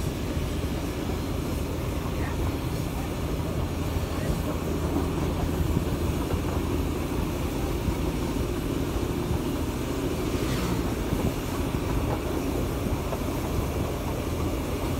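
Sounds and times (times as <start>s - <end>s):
train rumble: 0.0s - 14.9s.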